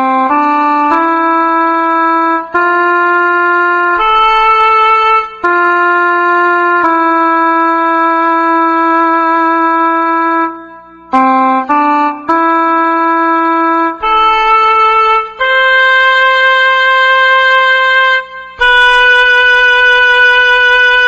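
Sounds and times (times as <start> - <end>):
solo trumpet slow melody: 0.0 - 21.0.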